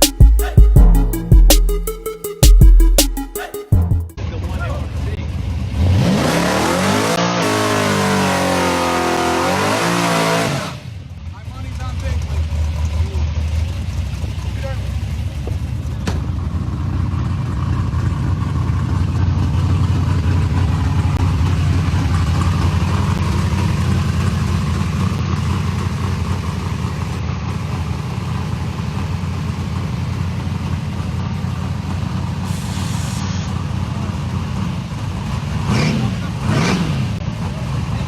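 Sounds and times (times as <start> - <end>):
drag racing engines rumbling: 4.2 - 38.0.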